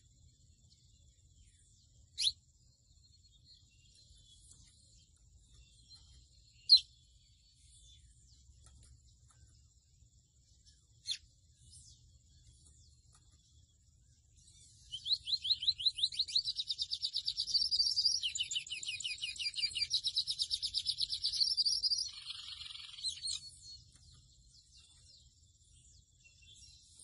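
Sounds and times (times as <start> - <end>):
bird song with buzzy trill: 0.0 - 27.0.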